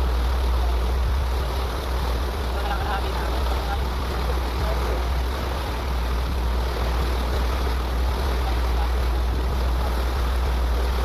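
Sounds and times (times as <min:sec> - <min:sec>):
diesel engines rumbling: 0:00.0 - 0:11.0
water hissing and wash: 0:00.0 - 0:11.0.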